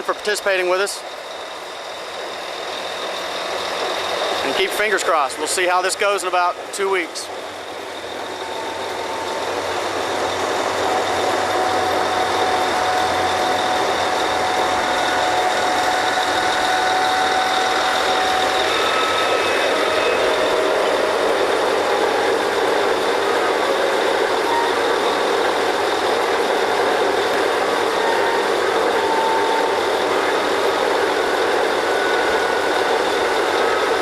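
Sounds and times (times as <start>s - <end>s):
drilling rig machinery running: 0.0s - 34.0s
thin high whine: 0.0s - 34.0s.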